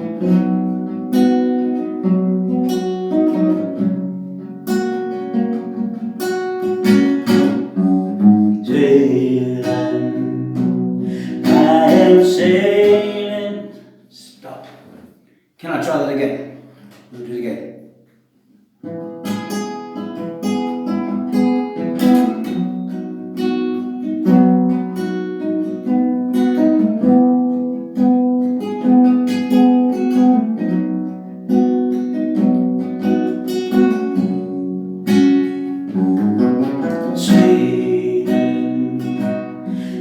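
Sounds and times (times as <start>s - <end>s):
acoustic guitar strumming chords: 0.0s - 14.0s, 18.8s - 40.0s.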